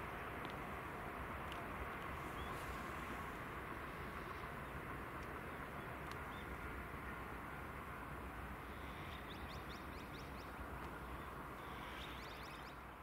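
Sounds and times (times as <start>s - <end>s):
outdoor hum and rumble: 0.0s - 13.0s.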